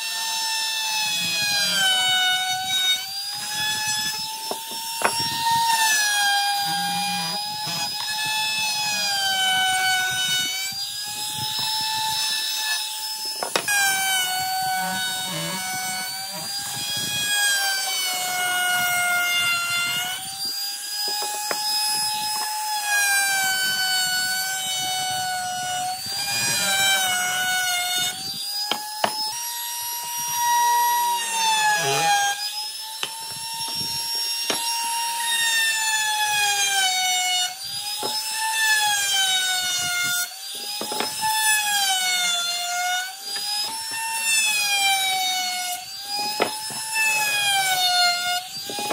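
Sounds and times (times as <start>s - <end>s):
power tool motor whining: 0.0s - 48.9s.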